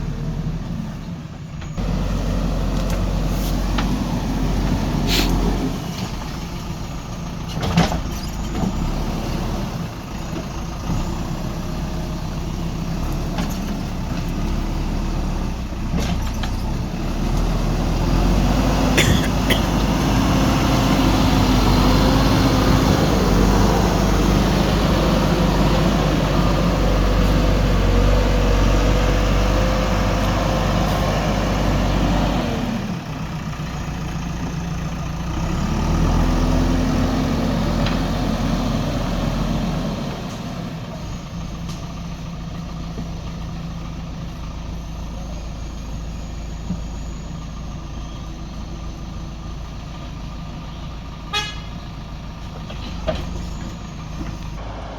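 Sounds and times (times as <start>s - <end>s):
diesel engine working under load: 0.0s - 54.9s.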